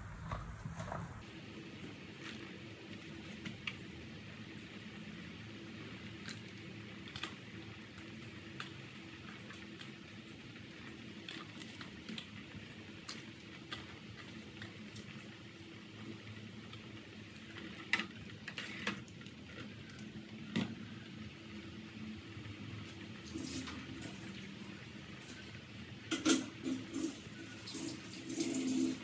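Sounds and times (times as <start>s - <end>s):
soup boiling in a pot: 0.0s - 29.0s.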